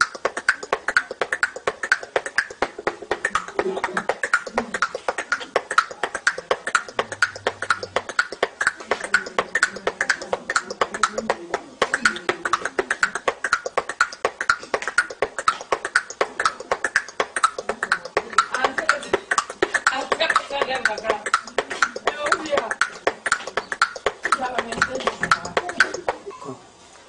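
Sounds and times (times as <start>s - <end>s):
boy beatboxing: 0.0s - 26.3s.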